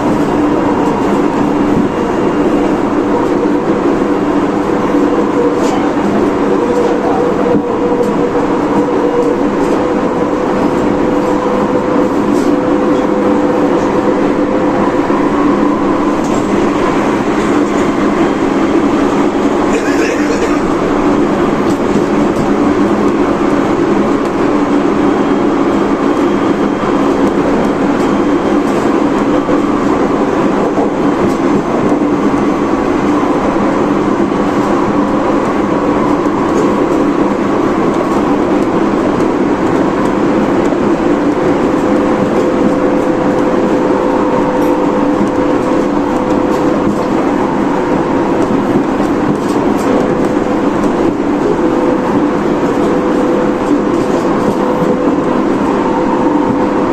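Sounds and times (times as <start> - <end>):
wheels rumbling on rail: 0.0 - 56.9.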